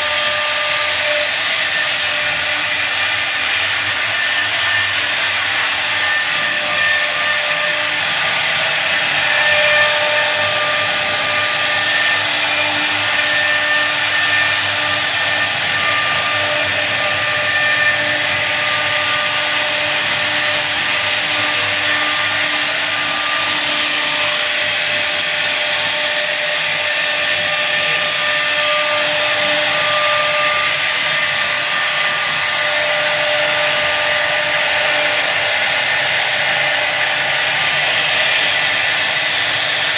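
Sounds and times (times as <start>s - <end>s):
router spindle whine: 0.0s - 39.9s
wood cutting hiss: 0.0s - 39.9s.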